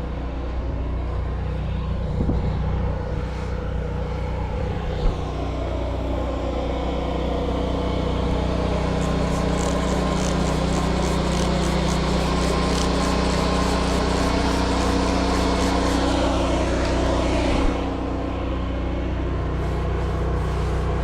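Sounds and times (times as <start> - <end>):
pressure washer running: 0.0 - 21.0.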